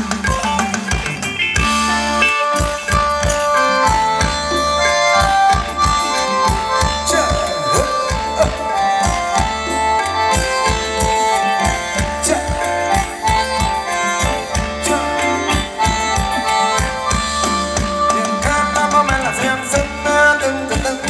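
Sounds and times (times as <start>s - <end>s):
reedy mouth organ melody: 0.0s - 21.0s
steady drum beat: 0.0s - 21.0s.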